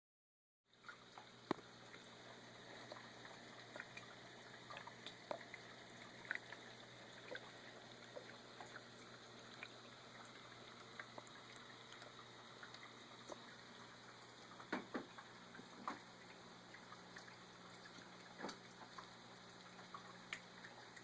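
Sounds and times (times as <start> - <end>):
low steady hum: 0.7 - 21.0
small waterfall trickling: 0.7 - 21.0
water drips and splashes: 0.7 - 21.0.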